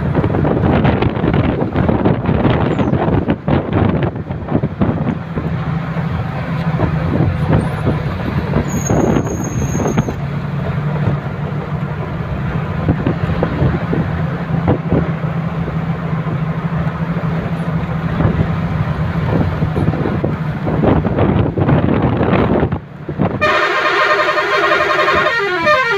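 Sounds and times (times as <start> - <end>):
road rumble: 0.0 - 25.9
vehicle engine hum: 0.0 - 25.9.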